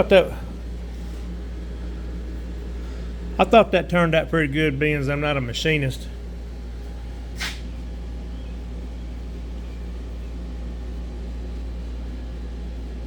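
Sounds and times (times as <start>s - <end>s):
motor or fan humming: 0.0s - 13.0s.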